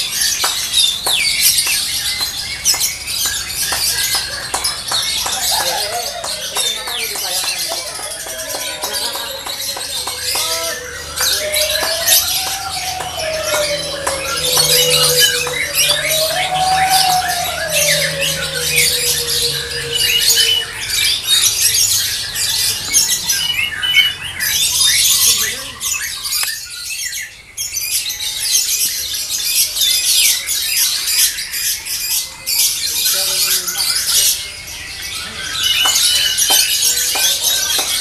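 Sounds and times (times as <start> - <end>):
lovebirds chattering and screeching: 0.0 - 38.0.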